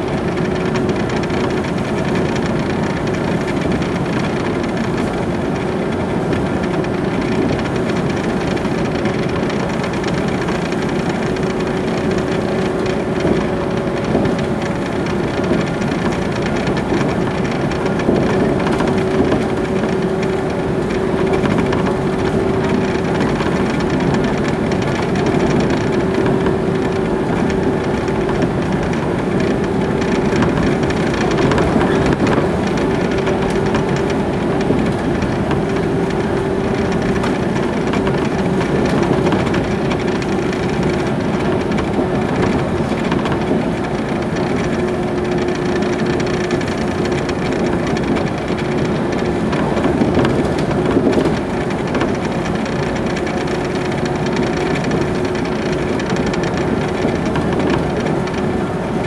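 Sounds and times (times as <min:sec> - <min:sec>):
train wheels rumbling on rails: 0:00.0 - 0:59.0
rail joint clicks: 0:00.1 - 0:59.0.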